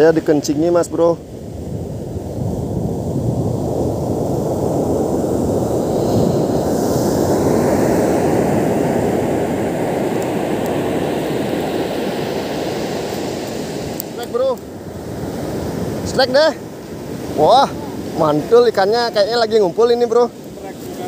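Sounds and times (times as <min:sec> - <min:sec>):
surf breaking on beach: 0:00.0 - 0:21.0
wind rumble on microphone: 0:00.0 - 0:21.0.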